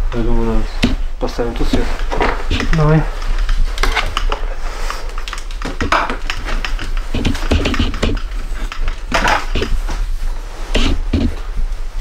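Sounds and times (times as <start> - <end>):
equipment clicking and knocking: 0.8 - 10.0, 10.7 - 11.5.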